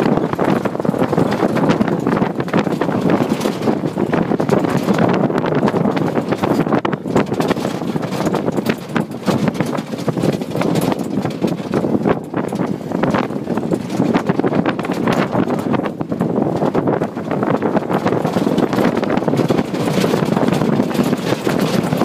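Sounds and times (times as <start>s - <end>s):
jeep rattling and knocking: 0.0s - 22.0s
steady vehicle rumble: 0.0s - 22.0s.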